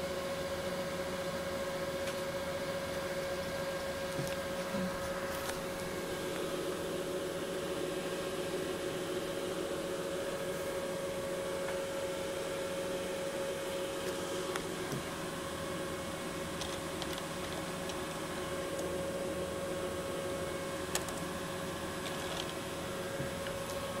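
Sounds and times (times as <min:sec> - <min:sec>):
electronics cooling fans humming: 0:00.0 - 0:24.0
mid-pitched whine: 0:00.0 - 0:24.0.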